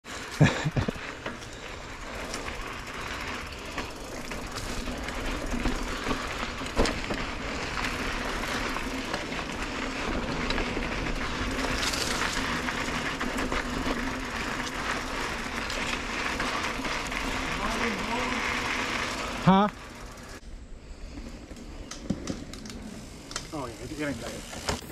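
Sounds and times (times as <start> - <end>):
bike tyres rolling on dirt: 0.0 - 24.9
bike rattling and clicking: 0.1 - 20.4, 21.0 - 24.9.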